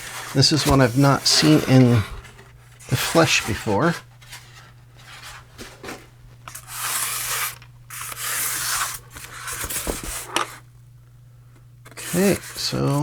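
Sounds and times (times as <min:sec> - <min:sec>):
packaging rustling and rubbing: 0:00.0 - 0:10.6, 0:11.8 - 0:13.0.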